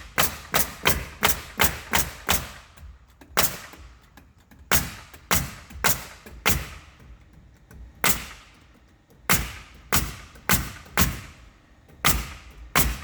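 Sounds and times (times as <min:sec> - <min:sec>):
nail gun firing: 0:00.0 - 0:07.2, 0:08.0 - 0:13.0.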